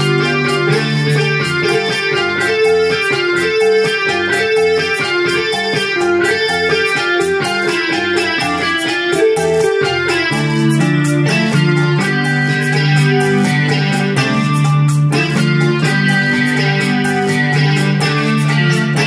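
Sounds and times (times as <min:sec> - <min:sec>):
electronic keyboard cha-cha tune: 0:00.0 - 0:19.0.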